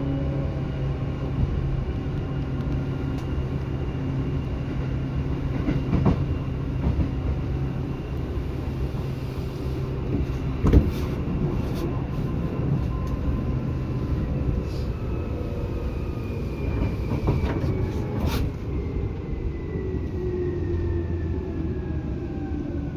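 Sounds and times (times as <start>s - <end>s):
electric train rumbling: 0.0s - 22.9s.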